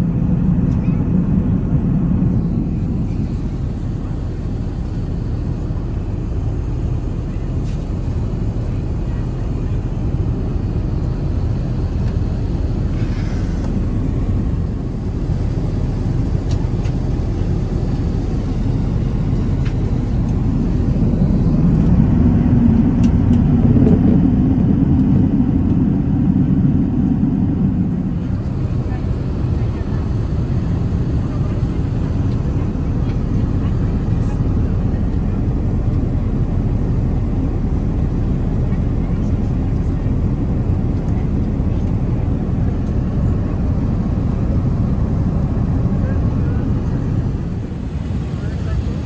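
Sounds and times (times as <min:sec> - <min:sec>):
aircraft cabin engine rumble: 0:00.0 - 0:49.0.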